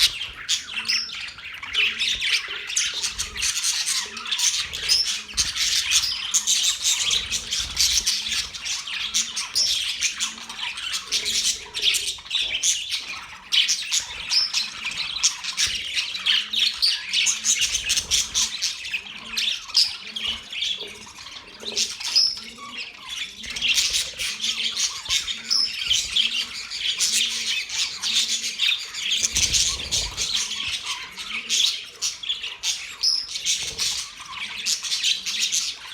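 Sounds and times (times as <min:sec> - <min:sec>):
budgerigars chattering: 0:00.0 - 0:35.9.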